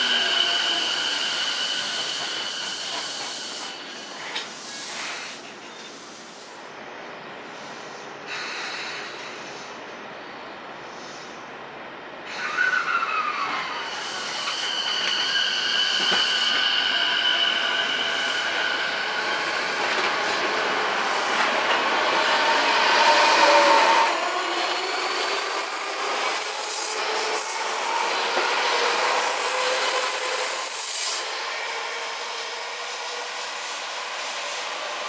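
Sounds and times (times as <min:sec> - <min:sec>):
electric train on rails: 0:00.0 - 0:35.0.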